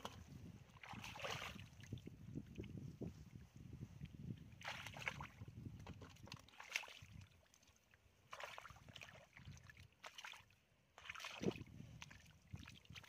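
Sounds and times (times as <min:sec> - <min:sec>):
sloshing in muddy water: 0:00.0 - 0:13.0.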